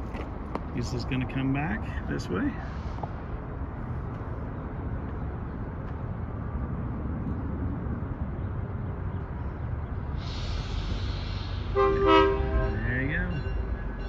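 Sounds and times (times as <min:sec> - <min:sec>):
distant diesel locomotive rumble: 0:00.0 - 0:14.0.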